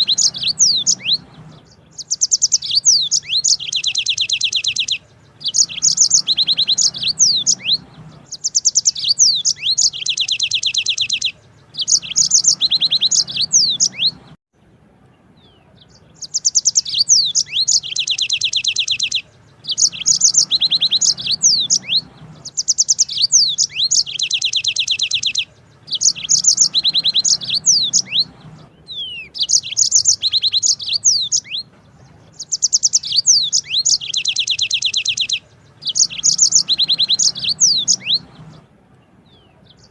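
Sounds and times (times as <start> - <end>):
canary singing rolling trills: 0.0 - 14.4, 15.0 - 39.9.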